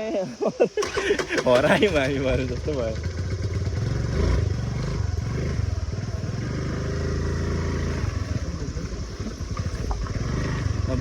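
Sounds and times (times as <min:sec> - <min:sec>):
motor scooter engine running: 0:00.8 - 0:11.0.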